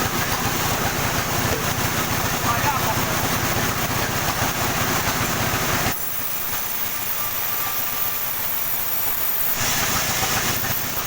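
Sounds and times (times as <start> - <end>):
sawmill machinery rumbling: 0.0 - 11.0.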